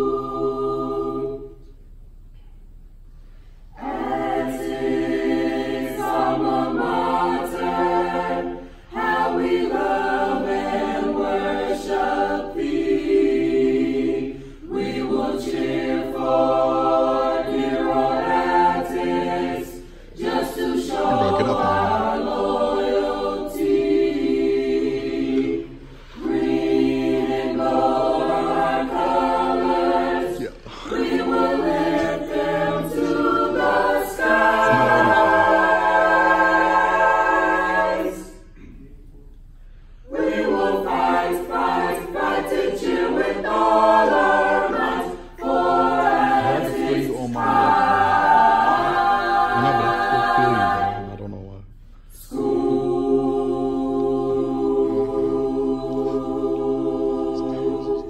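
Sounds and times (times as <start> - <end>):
choir singing a cappella: 0.0 - 2.0, 3.2 - 58.0.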